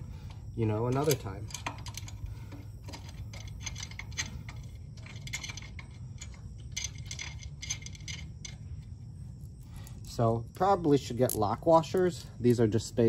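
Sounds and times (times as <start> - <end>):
metal bolts clicking and clinking: 0.0 - 13.0.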